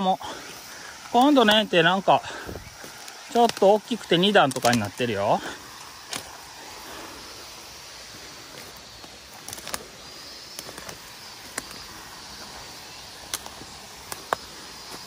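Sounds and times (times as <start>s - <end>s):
footsteps snapping twigs: 0.9s - 1.7s, 2.4s - 15.0s
footsteps crunching leaf litter: 1.0s - 15.0s.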